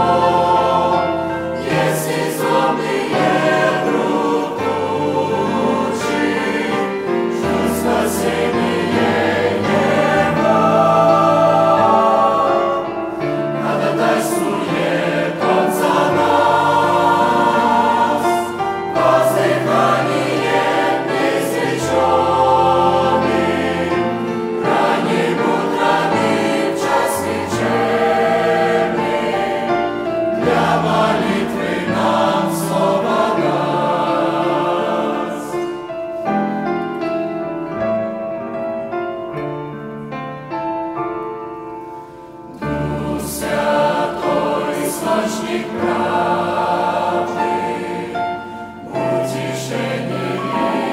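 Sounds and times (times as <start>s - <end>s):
choir singing a hymn: 0.0s - 39.8s, 41.7s - 50.9s.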